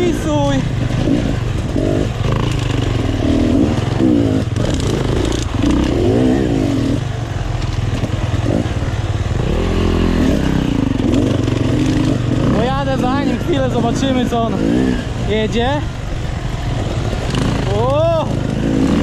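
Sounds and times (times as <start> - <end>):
dirt bike engine revving: 0.0 - 19.0
dirt bike engines droning: 0.0 - 19.0.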